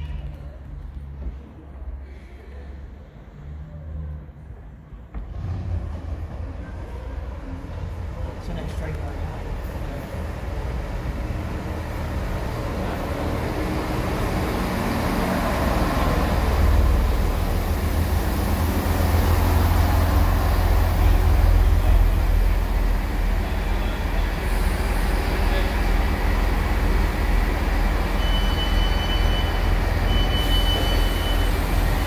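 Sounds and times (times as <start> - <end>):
train deep rumble: 0.0 - 32.0.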